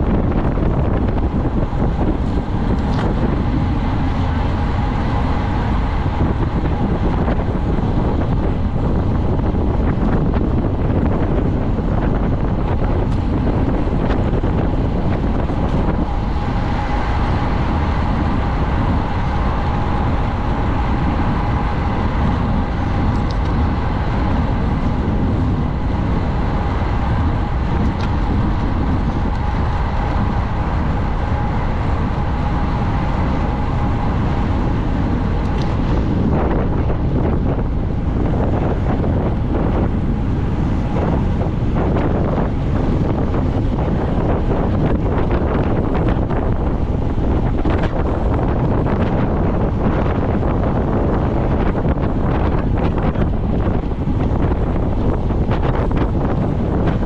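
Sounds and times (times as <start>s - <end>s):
faint steady whine: 0.0s - 57.0s
road and tyre noise: 0.0s - 57.0s
wind rushing over microphone: 0.0s - 57.0s.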